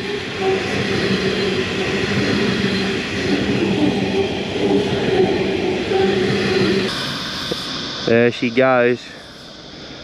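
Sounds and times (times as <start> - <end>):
train passing with rumbling rush: 0.0 - 10.0.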